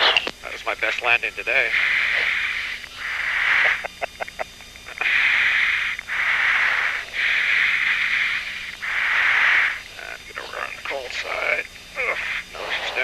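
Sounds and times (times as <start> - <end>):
intercom hiss: 0.0 - 13.0.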